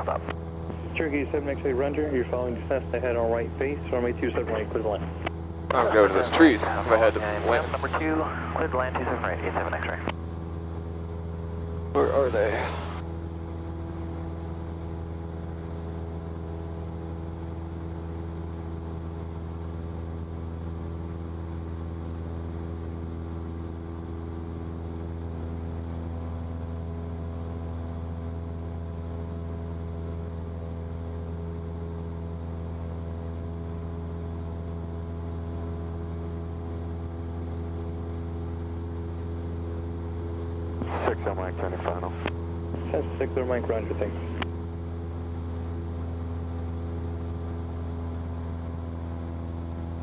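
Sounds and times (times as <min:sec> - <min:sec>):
propeller plane engine droning: 0:00.0 - 0:50.0.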